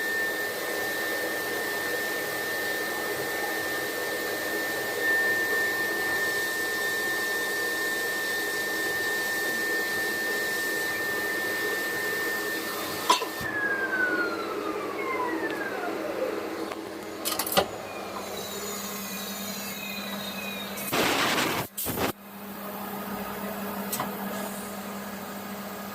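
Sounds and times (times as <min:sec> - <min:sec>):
machine spindle whining: 0:00.0 - 0:21.0.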